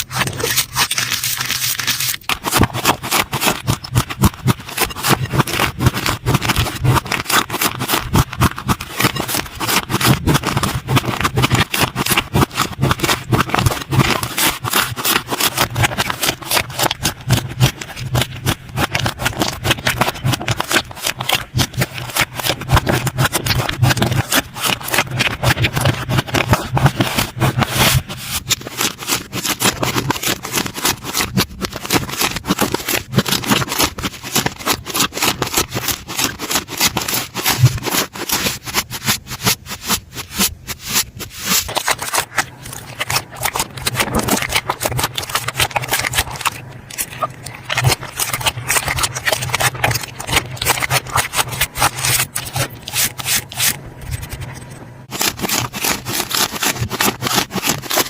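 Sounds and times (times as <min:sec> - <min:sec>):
slime crackling and popping: 0:00.0 - 0:58.0.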